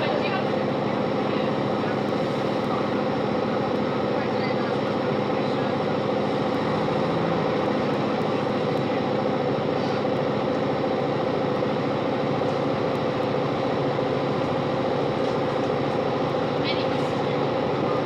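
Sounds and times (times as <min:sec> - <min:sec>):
diesel engine drone: 0:00.0 - 0:18.0
wheels rushing on rails: 0:00.0 - 0:18.0.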